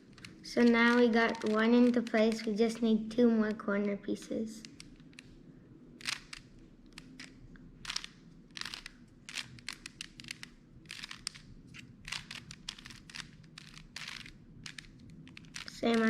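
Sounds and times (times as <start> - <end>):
puzzle cube clicking and scraping: 0.0 - 2.9, 4.6 - 5.4, 6.0 - 16.0.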